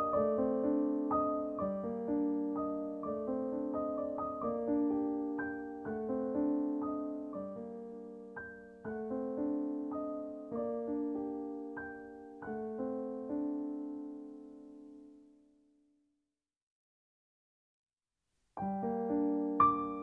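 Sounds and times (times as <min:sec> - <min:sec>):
slow solo piano piece: 0:00.0 - 0:15.4, 0:18.6 - 0:20.0.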